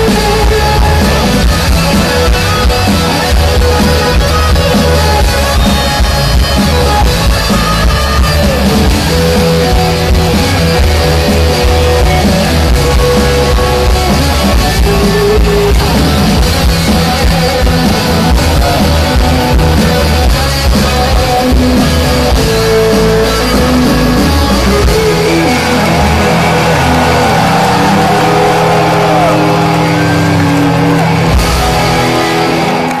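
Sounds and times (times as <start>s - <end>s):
rock band playing live: 0.0s - 33.0s.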